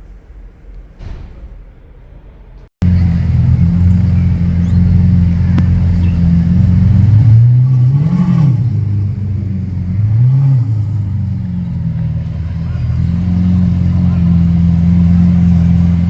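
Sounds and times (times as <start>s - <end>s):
car engine idling and revving: 2.8s - 16.0s.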